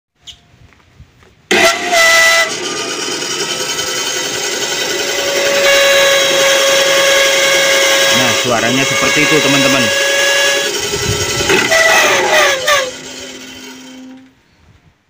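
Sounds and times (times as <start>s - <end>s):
bandsaw running with harsh whine: 1.5s - 14.3s.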